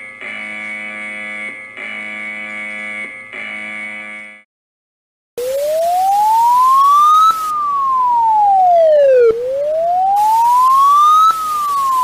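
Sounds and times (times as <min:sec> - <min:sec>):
wailing siren: 0:00.0 - 0:04.4, 0:05.4 - 0:12.0.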